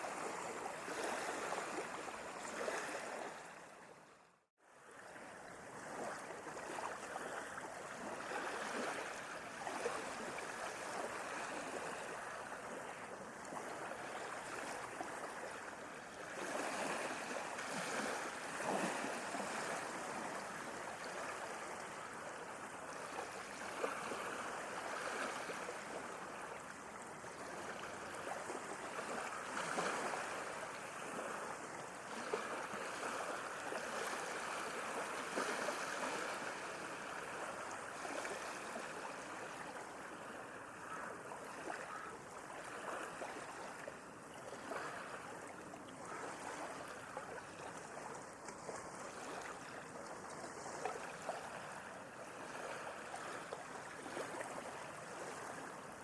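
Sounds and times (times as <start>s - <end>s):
sea water lapping: 0.0s - 56.0s.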